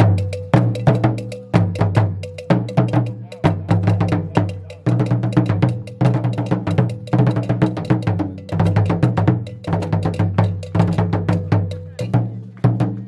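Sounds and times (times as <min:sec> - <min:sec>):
barrel drums beaten with sticks: 0:00.0 - 0:13.0.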